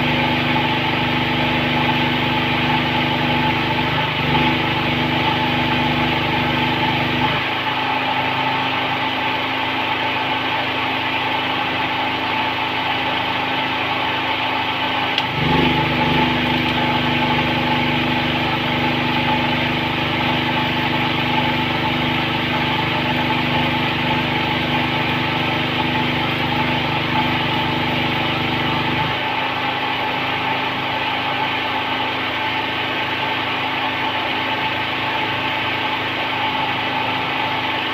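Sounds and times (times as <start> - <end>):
small engine running: 0.0 - 37.9.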